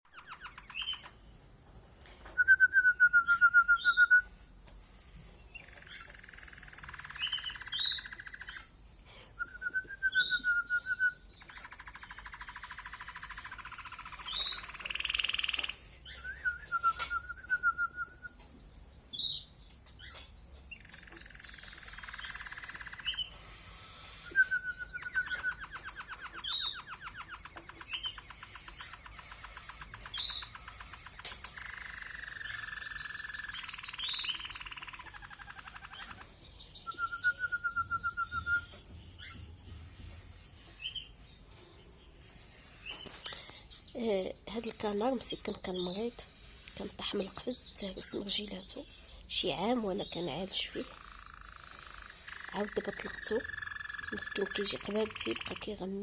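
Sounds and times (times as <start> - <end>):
canary singing trills: 0.1 - 1.5, 2.2 - 56.0.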